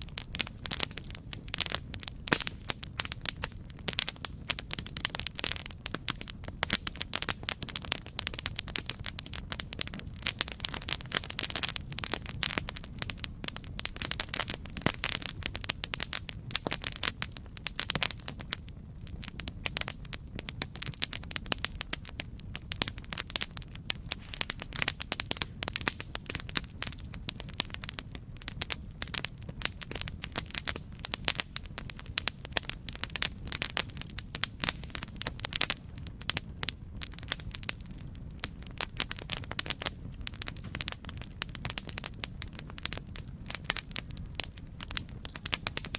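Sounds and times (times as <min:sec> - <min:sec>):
burning wood crackling: 0:00.0 - 0:45.9
low rumble of flames: 0:00.0 - 0:45.9.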